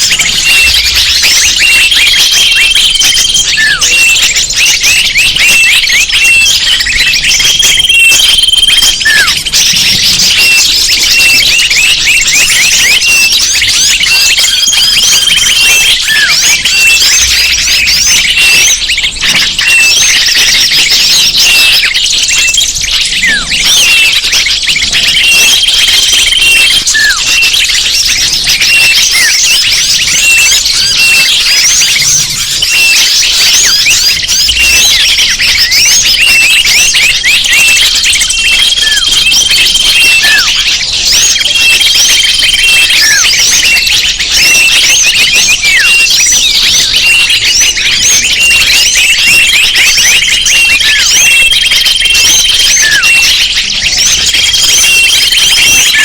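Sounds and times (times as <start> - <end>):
long whistled bird notes: 0.0 - 56.0
songbirds chirping and twittering: 0.0 - 56.0.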